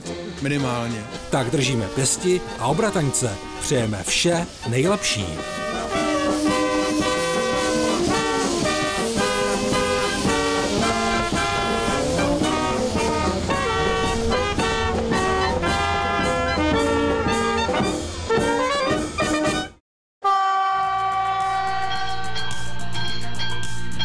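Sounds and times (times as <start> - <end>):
upbeat brass band music: 0.6 - 21.9.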